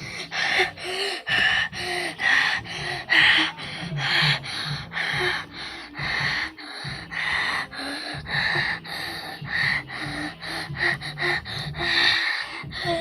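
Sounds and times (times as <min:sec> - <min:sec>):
person making breathy vocal noises: 0:00.0 - 0:13.0.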